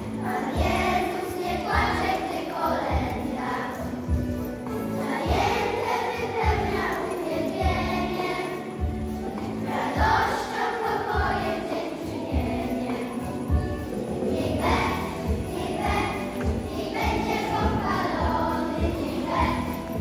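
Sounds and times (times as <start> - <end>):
group singing christmas song: 0.0 - 20.0
instrumental accompaniment: 0.0 - 20.0.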